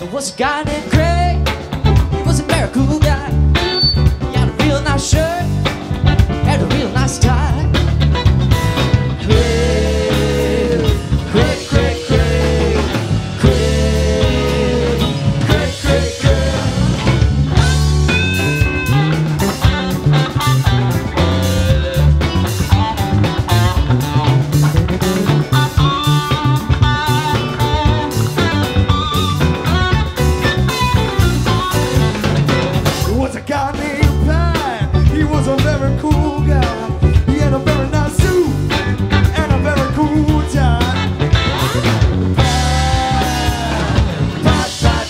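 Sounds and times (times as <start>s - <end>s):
rock band playing: 0.0s - 45.0s.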